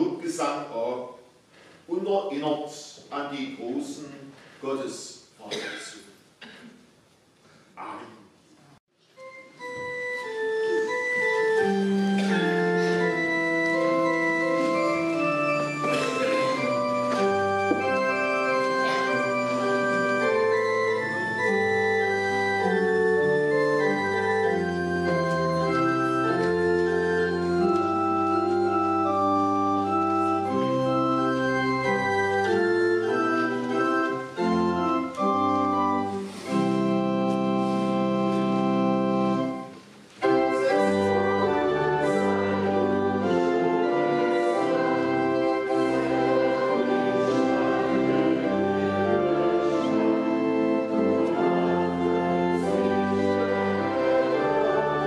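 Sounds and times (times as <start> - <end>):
church organ playing chords: 9.0 - 55.0.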